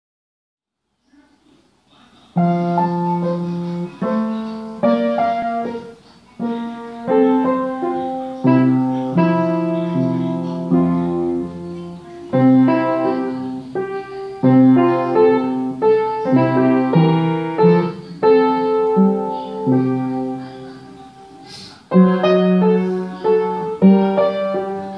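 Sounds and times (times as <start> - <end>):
piano music: 2.4 - 24.9.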